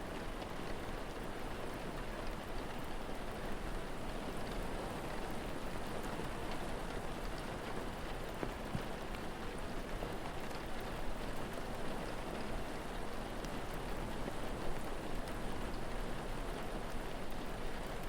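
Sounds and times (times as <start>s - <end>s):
steady rain falling: 0.0s - 18.0s
faint wood fire crackles: 0.1s - 18.0s.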